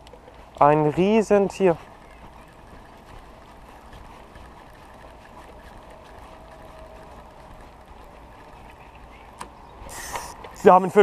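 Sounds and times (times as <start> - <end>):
moving water: 0.0 - 11.0.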